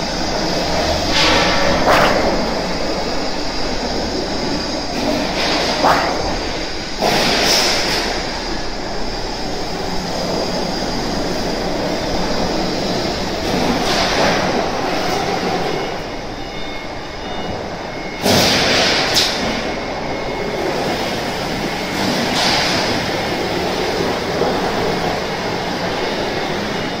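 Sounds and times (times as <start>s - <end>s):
roll forming machine rumbling: 0.0s - 27.0s.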